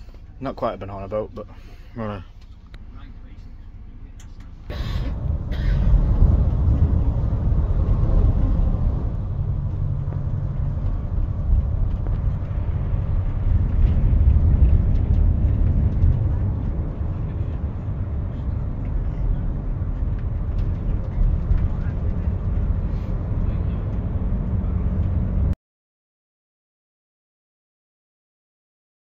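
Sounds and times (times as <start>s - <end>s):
road and engine rumble in coach: 0.0s - 25.6s.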